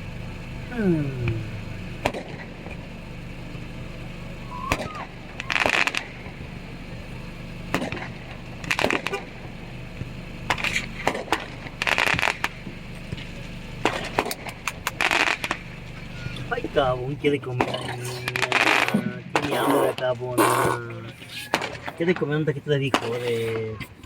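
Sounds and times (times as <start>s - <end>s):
steady low hum: 0.0s - 24.0s
fireworks crackling and popping: 1.3s - 20.7s.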